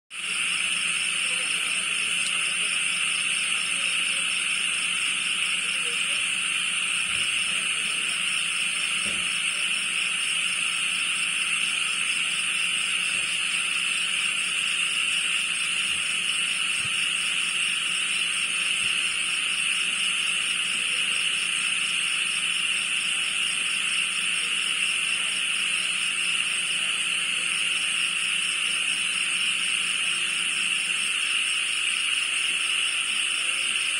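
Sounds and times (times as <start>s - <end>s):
insects trilling at night: 0.1s - 33.9s.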